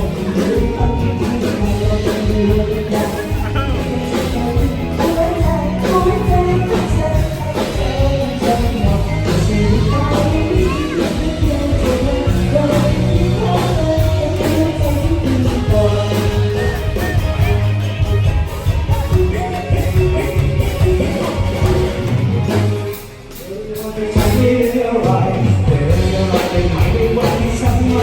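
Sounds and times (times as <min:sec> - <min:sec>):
upbeat pop-rock song with vocals: 0:00.0 - 0:28.0.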